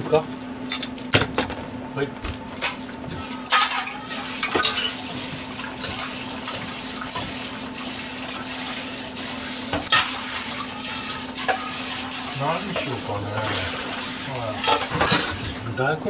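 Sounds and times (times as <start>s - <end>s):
tap water splashing in sink: 0.0s - 15.7s.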